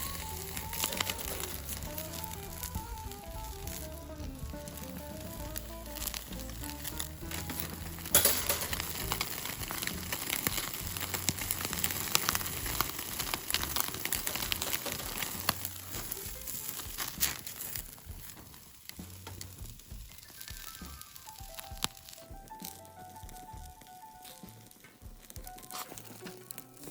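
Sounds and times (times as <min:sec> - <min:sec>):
fire crackling and popping: 0:00.0 - 0:26.9
meat sizzling over fire: 0:00.0 - 0:26.9.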